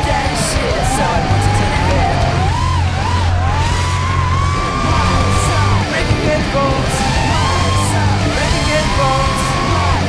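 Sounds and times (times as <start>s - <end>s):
rock music with electric guitar: 0.0s - 10.0s.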